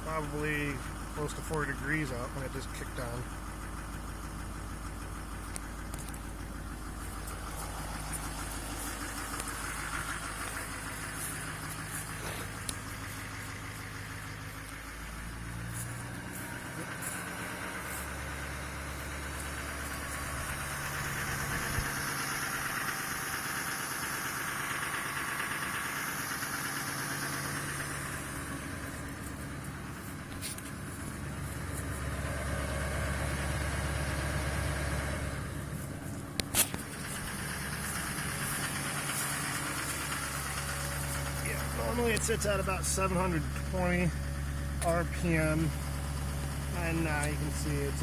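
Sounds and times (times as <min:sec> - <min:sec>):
diesel engine idling: 0:00.0 - 0:48.0.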